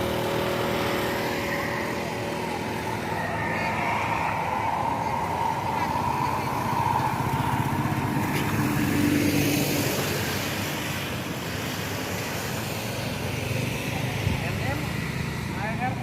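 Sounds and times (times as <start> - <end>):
bus engine driving past: 0.0 - 16.0.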